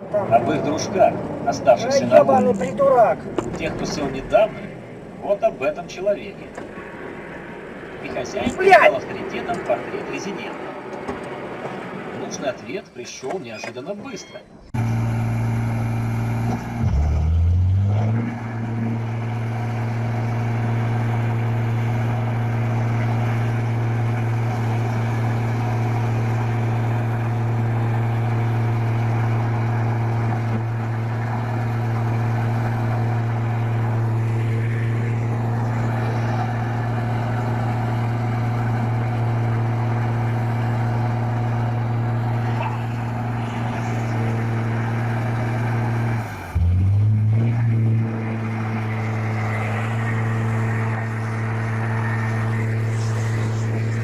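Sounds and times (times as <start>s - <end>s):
vehicle engine revving: 0.0s - 12.2s, 14.7s - 54.0s.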